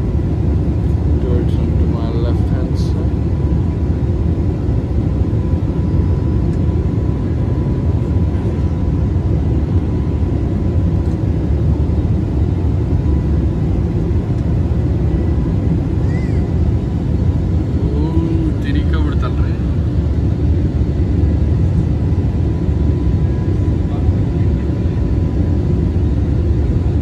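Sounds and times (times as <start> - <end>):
airliner cabin engine rumble: 0.0 - 27.0
faint steady whine: 0.0 - 27.0.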